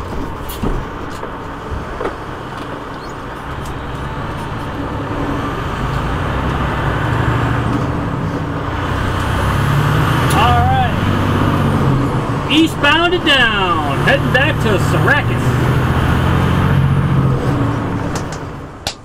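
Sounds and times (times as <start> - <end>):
road noise inside cab: 0.0 - 19.0
truck diesel engine hum: 0.0 - 19.0.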